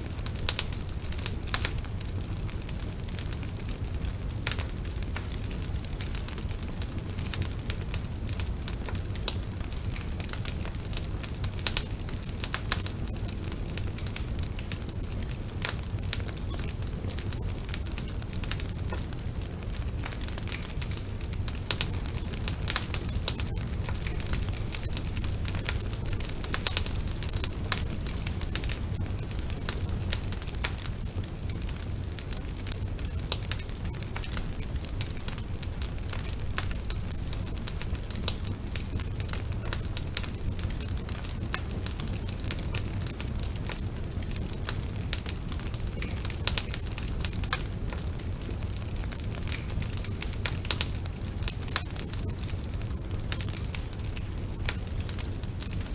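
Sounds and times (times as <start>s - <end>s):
low rumble of fire: 0.0s - 55.9s
wood fire crackling and popping: 0.0s - 55.9s.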